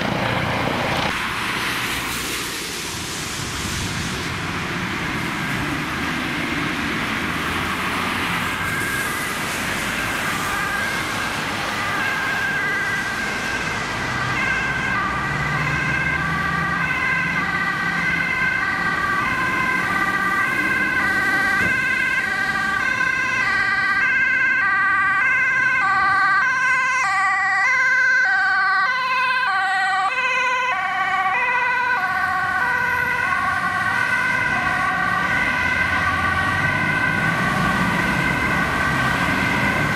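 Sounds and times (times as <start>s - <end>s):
road traffic: 0.0s - 39.9s
ambulance two-tone siren: 7.5s - 39.9s.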